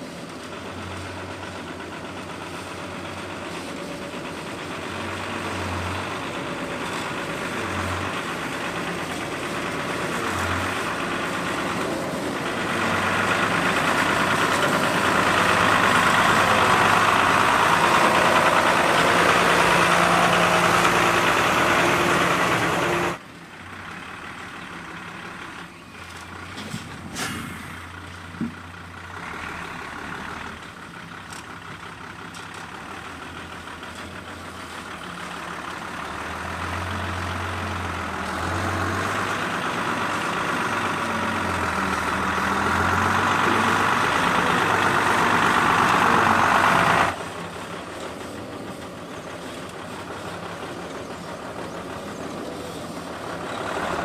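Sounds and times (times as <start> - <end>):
truck diesel engine: 0.0 - 54.0
tyre noise on dirt road: 0.0 - 54.0.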